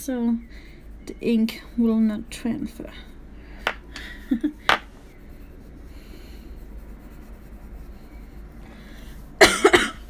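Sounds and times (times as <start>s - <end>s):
pencil scratching on paper: 0.2s - 3.8s, 4.8s - 9.4s.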